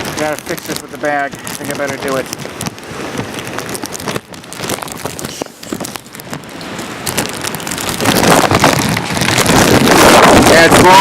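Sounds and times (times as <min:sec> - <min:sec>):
driving rain: 0:00.0 - 0:11.0
plastic bag crackling: 0:00.0 - 0:11.0
wind buffeting microphone: 0:00.0 - 0:11.0.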